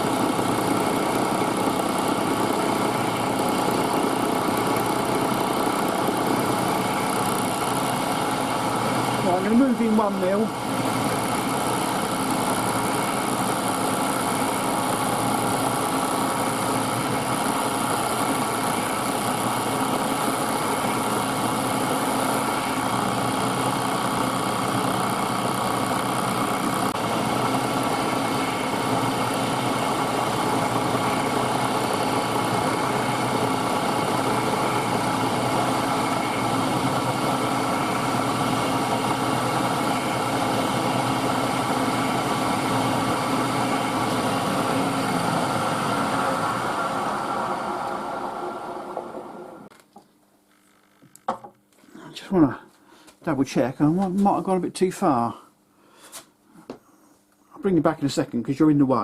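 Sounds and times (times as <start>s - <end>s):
milling machine running: 0.0s - 49.8s.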